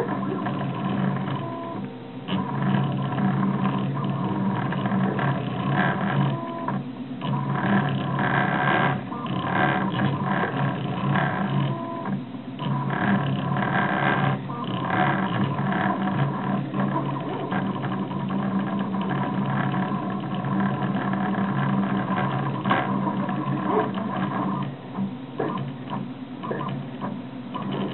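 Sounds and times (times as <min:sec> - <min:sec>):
steady low hum: 0:00.0 - 0:27.9
stepper motors whining: 0:00.0 - 0:27.9.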